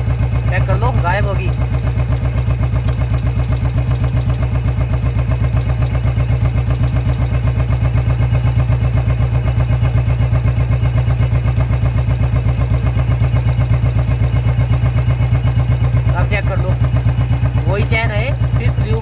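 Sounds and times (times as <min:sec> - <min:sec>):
motorcycle engine thudding: 0:00.0 - 0:19.0.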